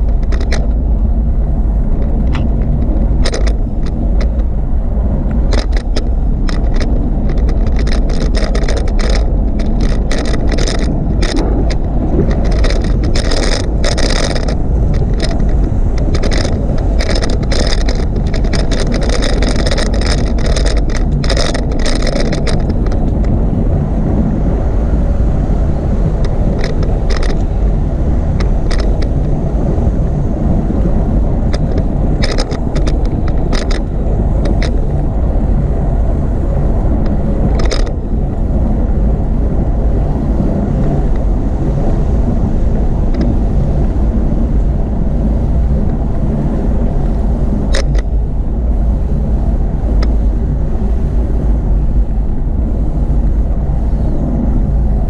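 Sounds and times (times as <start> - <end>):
bicycle clicks and rattles: 0.0 - 55.0
wind and rolling noise: 0.0 - 55.0.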